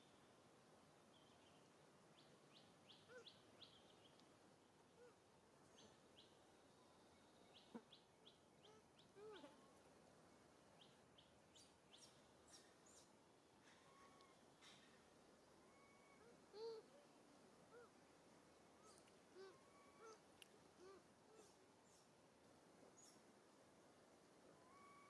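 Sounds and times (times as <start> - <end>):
faint bird chirping: 0.0 - 22.2, 22.8 - 23.4.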